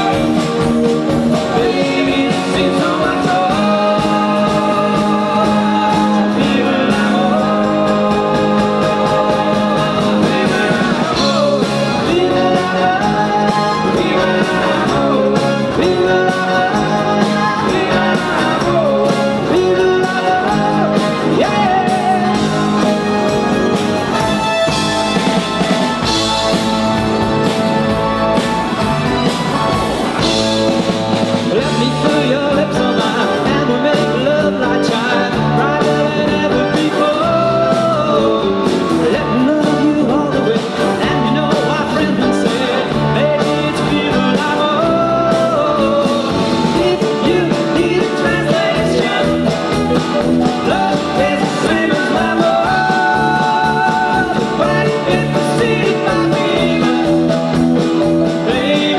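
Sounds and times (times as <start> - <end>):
live rock and roll band: 0.0 - 58.9
person singing: 0.0 - 58.9.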